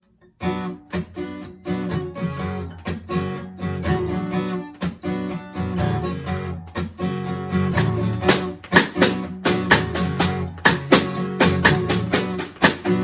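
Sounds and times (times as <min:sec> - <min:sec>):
acoustic guitar strumming chords: 0:00.2 - 0:13.0.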